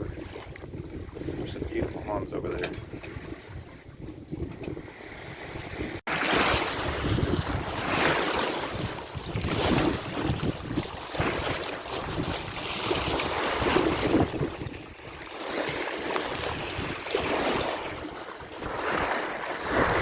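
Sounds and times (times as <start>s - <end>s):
water splashing along hull: 0.0s - 20.0s
wind buffeting microphone: 0.0s - 20.0s.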